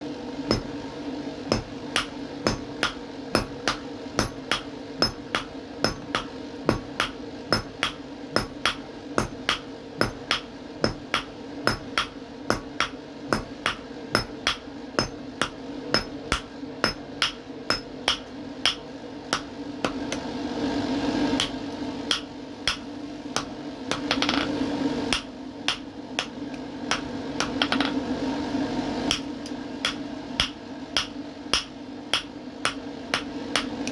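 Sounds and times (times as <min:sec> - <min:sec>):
steady hum: 0:00.0 - 0:33.9
hammer striking iron on anvil: 0:00.5 - 0:00.8, 0:01.5 - 0:20.2, 0:21.4 - 0:24.4, 0:25.1 - 0:27.9, 0:29.1 - 0:33.9.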